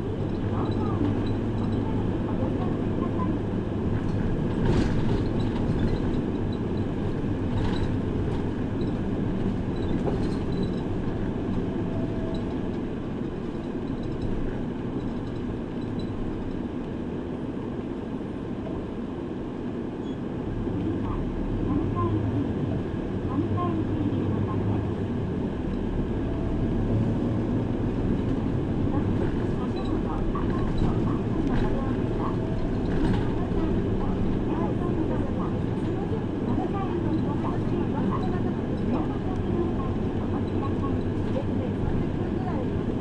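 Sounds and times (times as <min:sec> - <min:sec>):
bus engine and road noise: 0:00.0 - 0:43.0.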